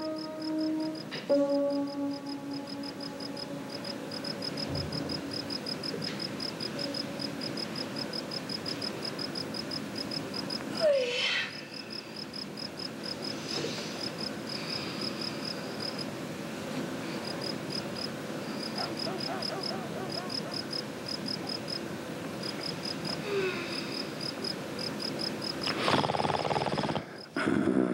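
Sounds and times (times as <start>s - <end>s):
crickets chirping: 0.0s - 27.4s.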